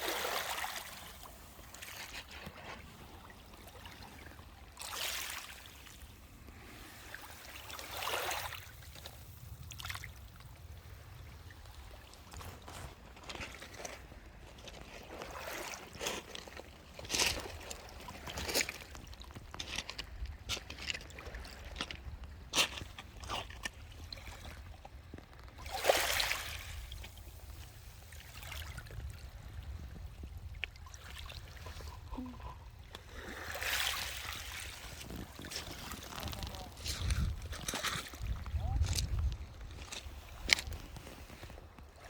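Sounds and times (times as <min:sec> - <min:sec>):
water sloshing at shore: 0:00.0 - 0:42.0.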